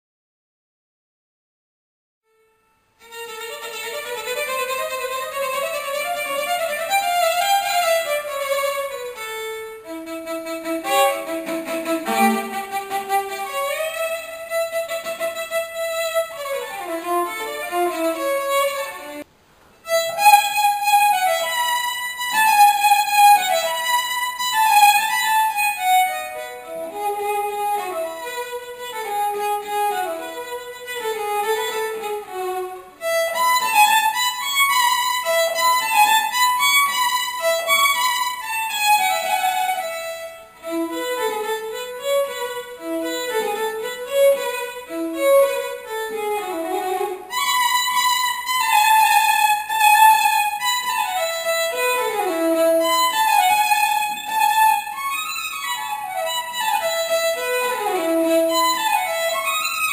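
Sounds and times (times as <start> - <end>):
violin bowed melody: 2.3 - 59.9.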